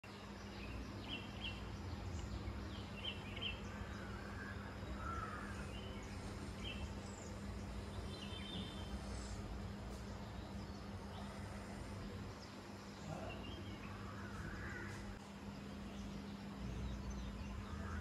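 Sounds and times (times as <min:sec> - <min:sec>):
faint constant hum: 0:00.0 - 0:18.0
birds chirping and calling: 0:00.1 - 0:18.0
low outdoor rumble: 0:00.1 - 0:18.0.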